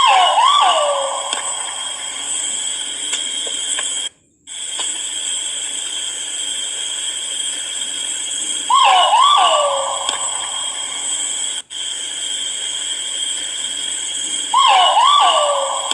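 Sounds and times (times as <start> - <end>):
high-pitched drone: 0.0 - 3.8, 5.4 - 11.6, 12.3 - 15.9.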